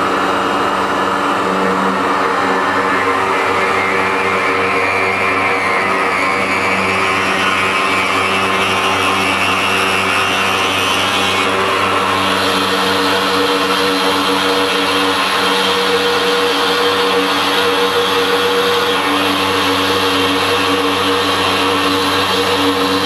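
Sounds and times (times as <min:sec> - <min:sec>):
machine motor whine: 0:00.0 - 0:23.0.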